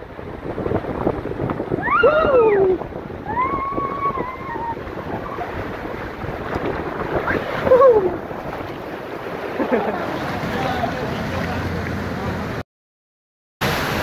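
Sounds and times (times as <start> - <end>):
water rushing: 0.0 - 12.6, 13.6 - 14.0
wind buffeting microphone: 0.0 - 12.6.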